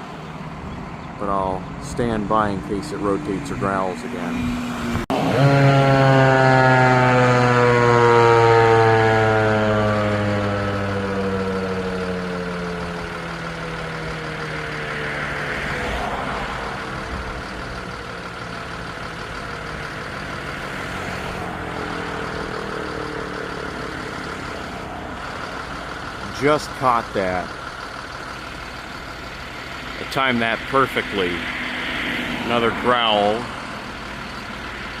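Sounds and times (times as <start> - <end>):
siren winding down: 2.9 - 35.0.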